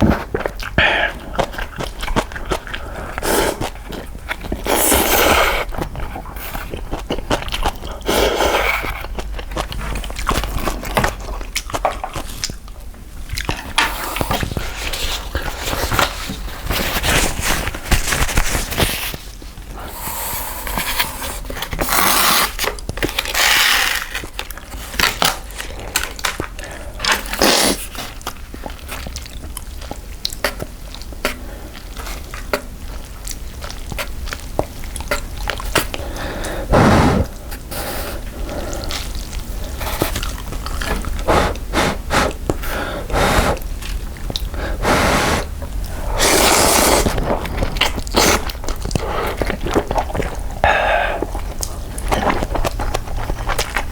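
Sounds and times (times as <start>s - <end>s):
noodles slurped: 0.0s - 12.7s, 19.8s - 53.9s
wet chewing: 0.0s - 53.9s.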